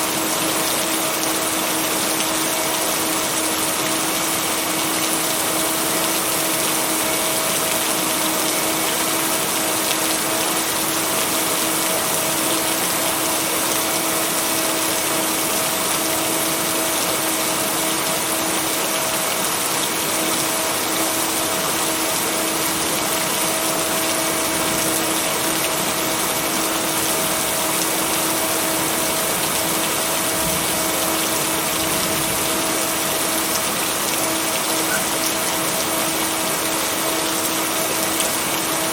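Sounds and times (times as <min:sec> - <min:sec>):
dense rain hiss: 0:00.0 - 0:38.9.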